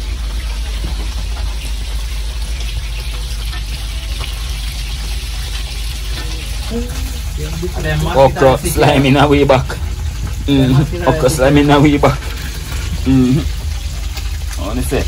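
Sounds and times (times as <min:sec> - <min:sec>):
low rumble: 0:00.0 - 0:15.0
running water rushing: 0:00.0 - 0:15.0.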